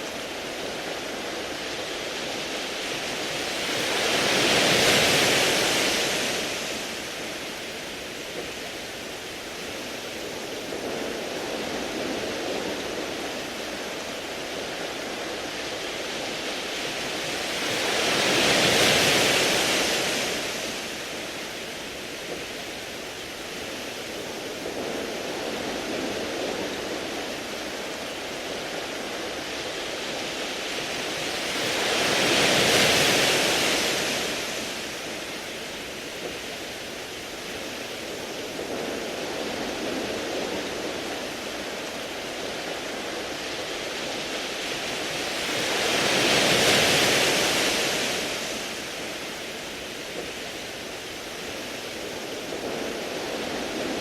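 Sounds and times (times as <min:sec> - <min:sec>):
waves washing onto pebbles: 0:00.0 - 0:54.0.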